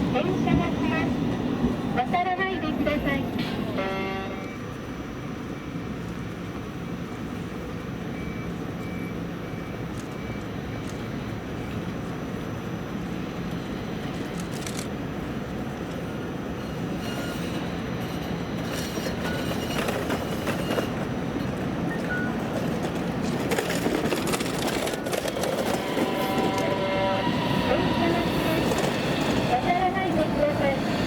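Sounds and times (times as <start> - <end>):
tram rumble: 0.0 - 31.0.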